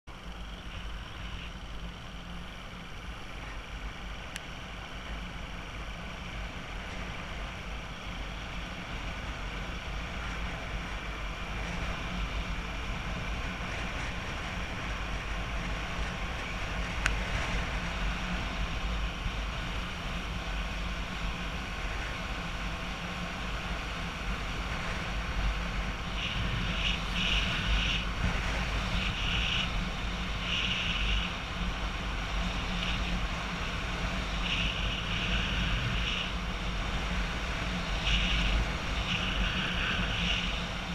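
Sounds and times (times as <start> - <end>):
road noise: 0.0 - 40.9
motorbike engine running: 0.1 - 40.9.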